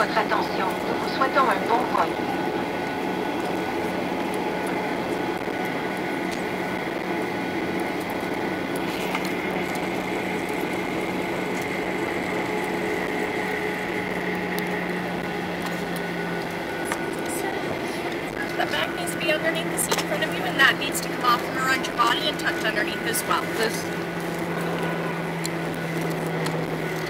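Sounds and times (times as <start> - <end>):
aircraft cabin engine rush: 0.0 - 27.0.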